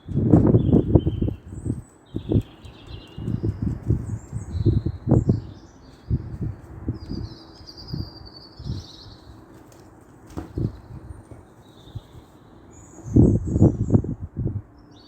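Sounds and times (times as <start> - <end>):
birds chirping and twittering: 0.0 - 15.0.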